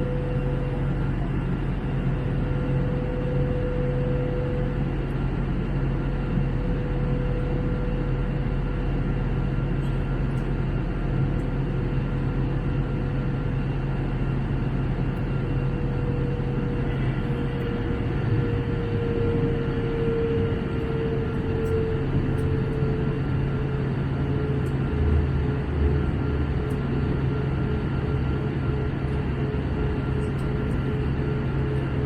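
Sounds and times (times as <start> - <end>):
aircraft cabin engine rush: 0.0 - 32.0
constant low hum: 0.0 - 32.0.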